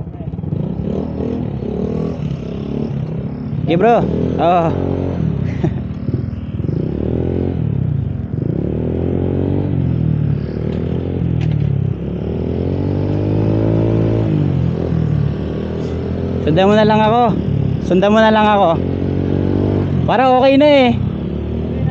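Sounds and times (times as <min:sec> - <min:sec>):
scooter engine accelerating: 0:00.0 - 0:21.9.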